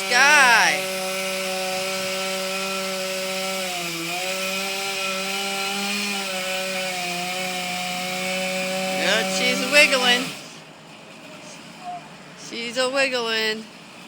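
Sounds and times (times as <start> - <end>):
chainsaw cutting wood: 0.0 - 11.8.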